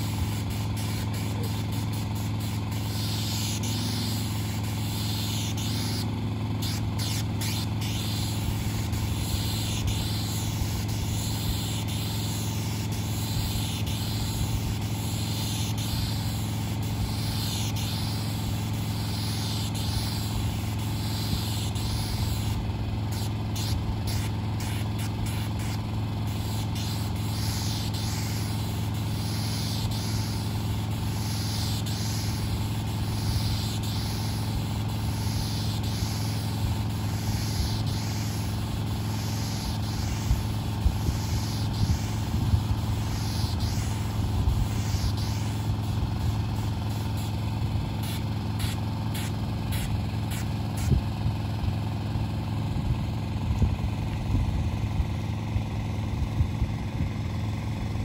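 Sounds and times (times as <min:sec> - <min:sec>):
hiss of spraying sealer: 0:00.0 - 0:51.0
engine running: 0:00.0 - 0:58.0.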